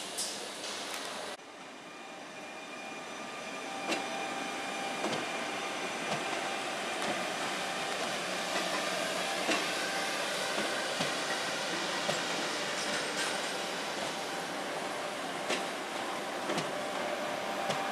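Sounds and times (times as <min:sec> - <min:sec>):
train running noise: 0:00.0 - 0:17.9.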